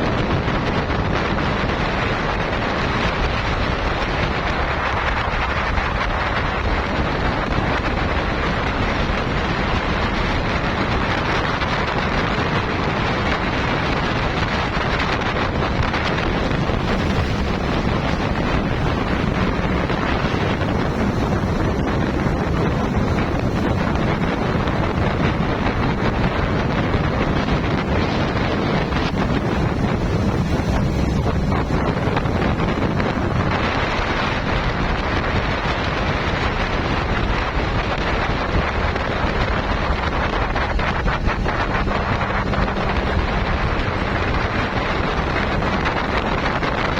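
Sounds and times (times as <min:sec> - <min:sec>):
boat motor running: 0:00.0 - 0:46.9
water rushing: 0:00.0 - 0:46.9
wind buffeting microphone: 0:00.0 - 0:46.9.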